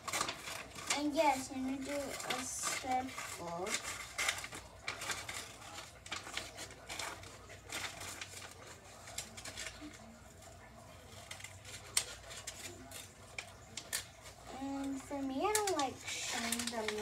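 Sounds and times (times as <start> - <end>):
paper rustling: 0.0 - 17.0
scissors snipping paper: 0.0 - 17.0.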